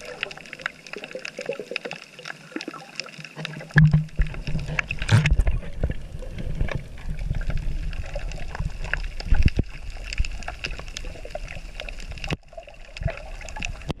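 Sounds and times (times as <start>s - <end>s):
muffled underwater sloshing: 0.0s - 14.0s
underwater clicks and pops: 2.6s - 14.0s.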